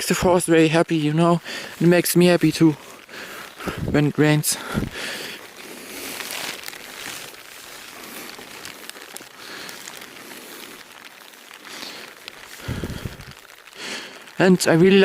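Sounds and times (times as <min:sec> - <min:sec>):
raindrops ticking: 0:00.0 - 0:15.0
steady rain hiss: 0:00.0 - 0:15.0.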